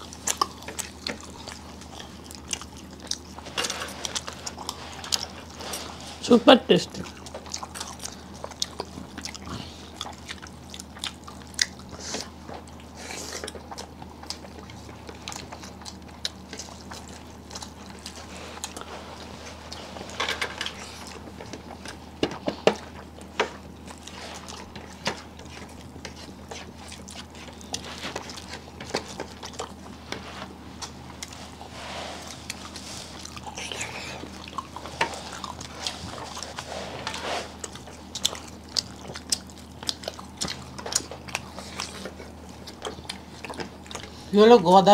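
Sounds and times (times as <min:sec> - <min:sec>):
people chewing food: 0:00.0 - 0:44.9
steady low hum: 0:00.0 - 0:44.9.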